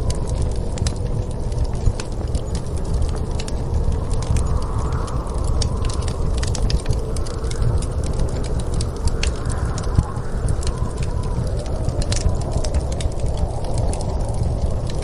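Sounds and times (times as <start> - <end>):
storm wind rumble: 0.0 - 15.0
wood fire crackling: 0.0 - 15.0.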